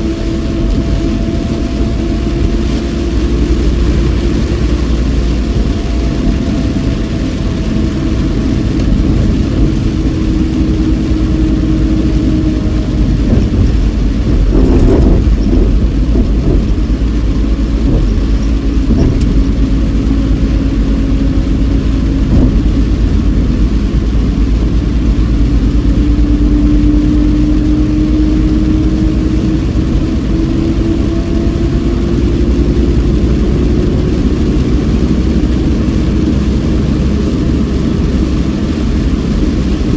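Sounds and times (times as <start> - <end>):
car engine: 0.0 - 39.9
road noise inside car: 0.0 - 39.9.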